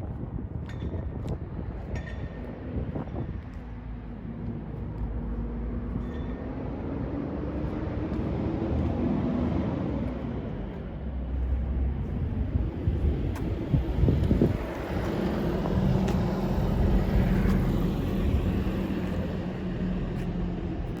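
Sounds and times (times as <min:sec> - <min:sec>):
wind on the microphone: 0:00.0 - 0:21.0.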